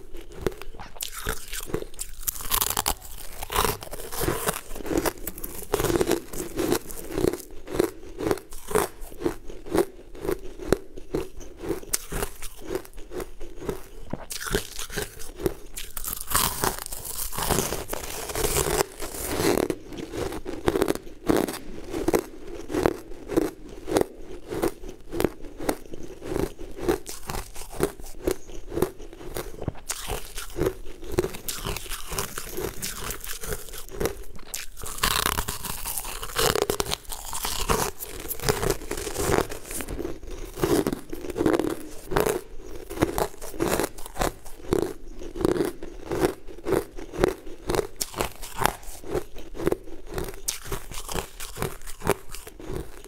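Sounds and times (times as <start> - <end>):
crunching and chewing frozen chunks: 0.0 - 53.0.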